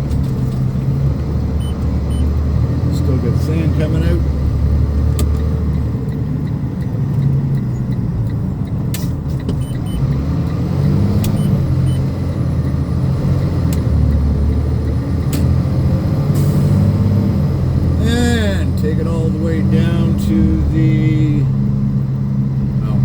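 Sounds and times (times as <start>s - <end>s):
diesel truck engine rumble: 0.0s - 23.0s.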